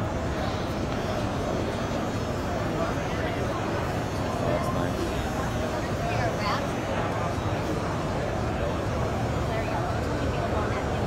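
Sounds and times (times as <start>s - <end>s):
crowded hall din of voices: 0.0s - 11.0s.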